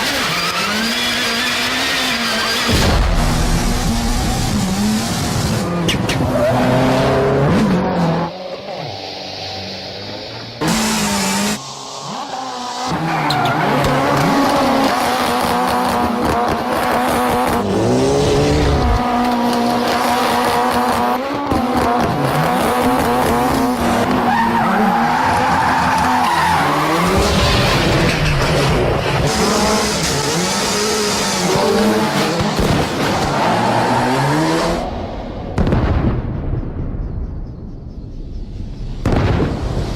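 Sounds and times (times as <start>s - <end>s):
tyres skidding: 0.0s - 35.1s
rally car engine revving: 0.0s - 35.6s.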